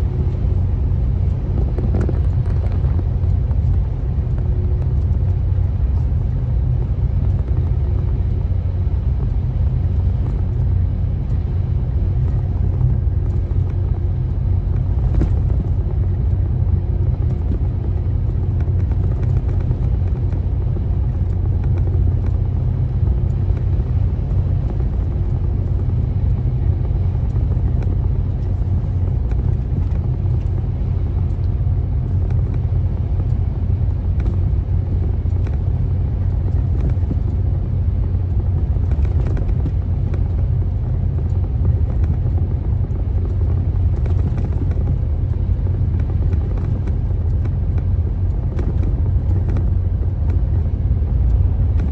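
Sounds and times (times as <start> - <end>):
vehicle engine and road noise: 0.0 - 51.9.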